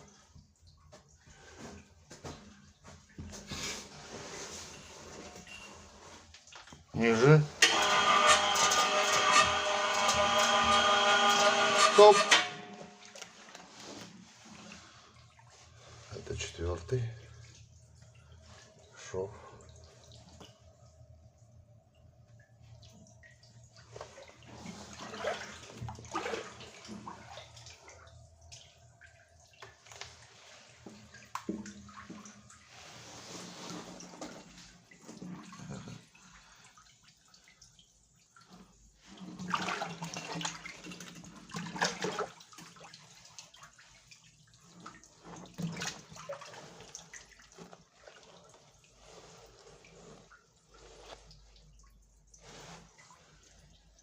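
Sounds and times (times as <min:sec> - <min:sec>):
water splashing in well: 0:00.0 - 0:54.0.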